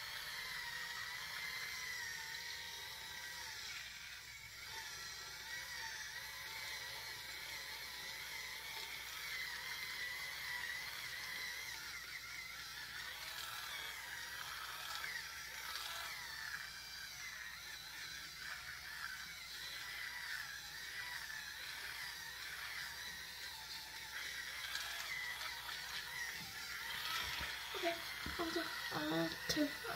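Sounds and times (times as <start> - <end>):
facial cleansing brush buzzing: 0.0 - 29.9.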